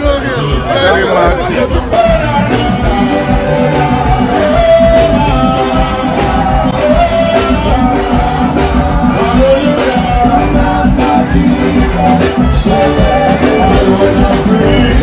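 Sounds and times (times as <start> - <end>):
loud band music: 0.0 - 15.0.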